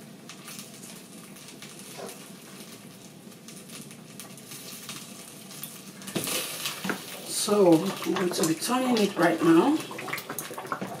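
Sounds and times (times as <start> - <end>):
stew sizzling in a pot: 0.0 - 11.0.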